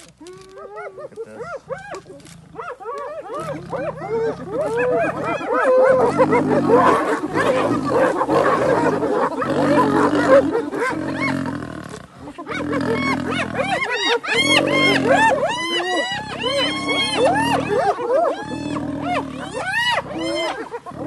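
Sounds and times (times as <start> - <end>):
hyenas giggling and whooping: 0.2 - 11.6, 12.3 - 21.0
deep growls: 3.3 - 20.3.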